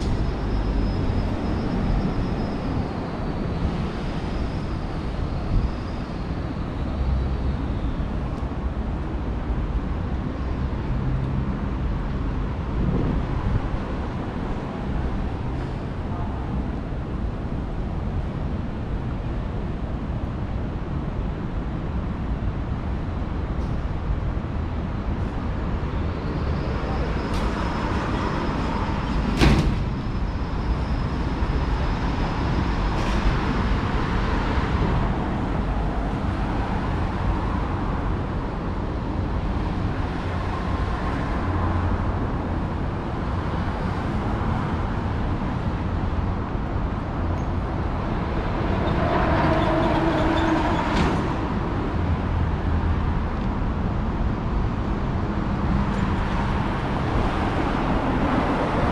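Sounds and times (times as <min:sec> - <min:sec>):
road traffic rumble: 0:00.0 - 0:58.9.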